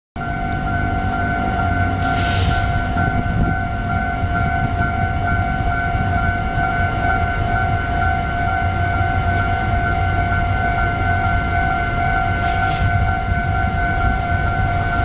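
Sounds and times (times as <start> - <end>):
crossing alarm electronic tones: 0.2 - 15.0
low rumble: 0.2 - 15.0.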